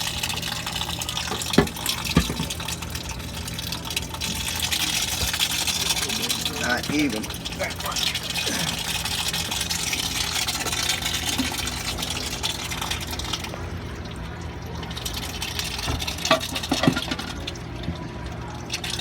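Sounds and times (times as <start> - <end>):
water gushing into a bucket: 0.0 - 19.0.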